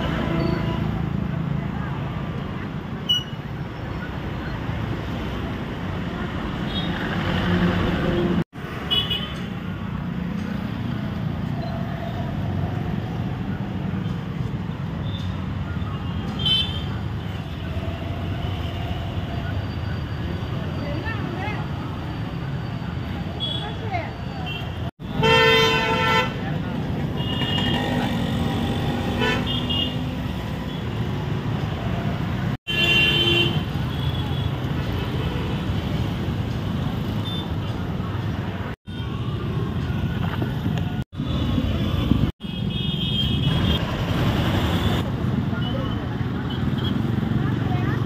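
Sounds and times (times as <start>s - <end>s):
street traffic rumble: 0.0s - 48.0s.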